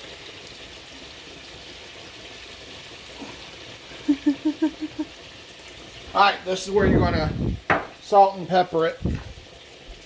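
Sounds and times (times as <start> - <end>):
chicken sizzling in a pan: 0.0 - 10.0.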